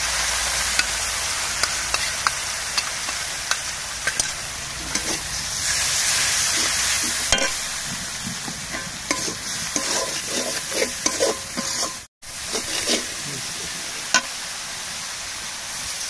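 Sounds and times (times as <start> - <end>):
food sizzling in hot oil: 0.0 - 16.0
metal spatula scraping a wok: 0.3 - 14.3.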